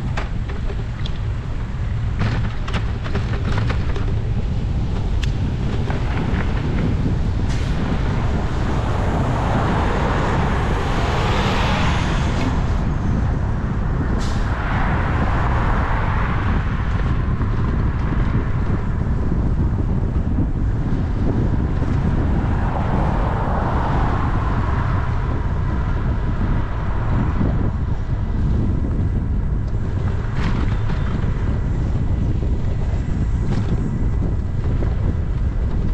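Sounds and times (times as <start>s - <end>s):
vehicles passing: 0.0s - 35.9s
wind rumble on microphone: 0.0s - 35.9s.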